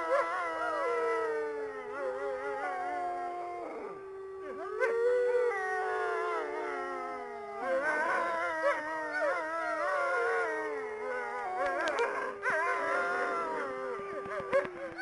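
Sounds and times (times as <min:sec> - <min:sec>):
wolves howling in chorus: 0:00.0 - 0:15.0.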